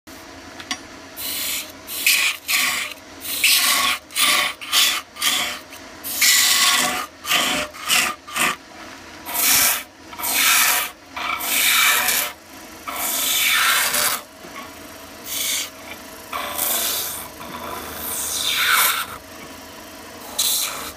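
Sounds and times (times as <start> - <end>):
lathe tool scraping wood: 1.2 - 19.6, 20.2 - 20.9.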